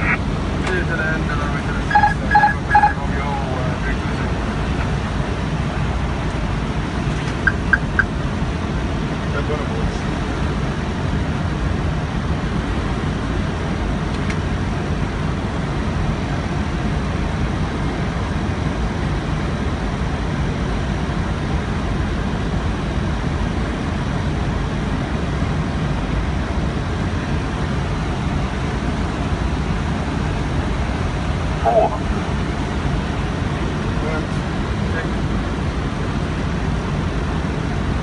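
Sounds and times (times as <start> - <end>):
airflow and jet engine noise: 0.0 - 38.0.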